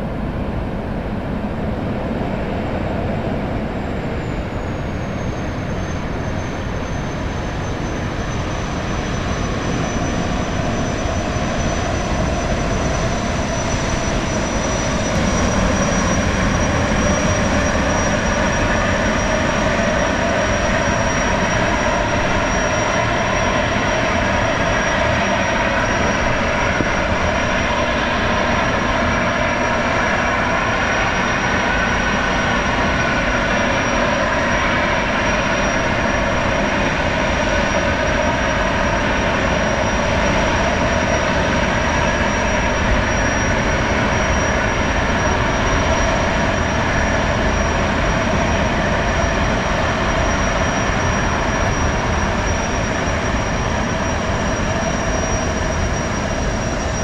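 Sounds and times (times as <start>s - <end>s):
gas-turbine engine whine: 0.0s - 57.0s.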